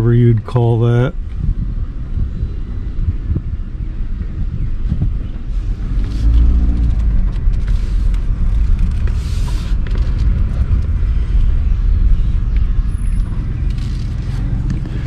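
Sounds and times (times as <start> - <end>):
van engine rumble: 0.0 - 15.0.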